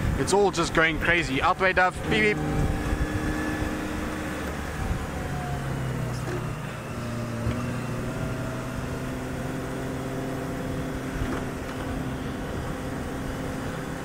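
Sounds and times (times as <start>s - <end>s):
road rumble: 0.0s - 14.0s
vehicle engine running: 0.0s - 14.0s.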